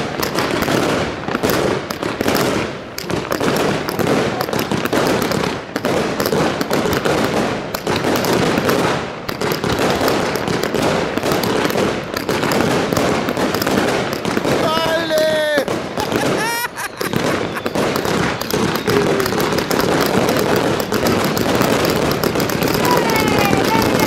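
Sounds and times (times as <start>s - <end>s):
fireworks bangs and popping: 0.0s - 24.0s.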